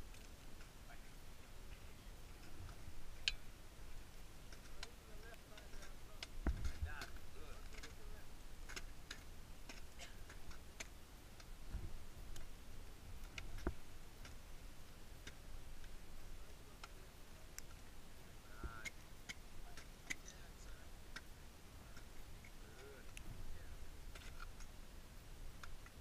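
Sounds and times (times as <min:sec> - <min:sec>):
faint low rumble: 0:00.0 - 0:26.0.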